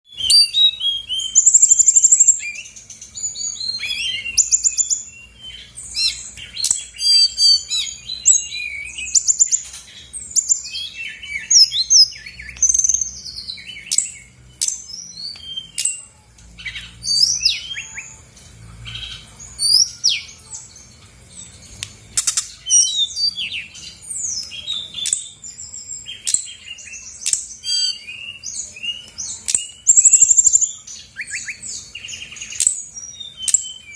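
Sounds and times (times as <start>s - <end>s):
bird singing: 0.0s - 33.9s.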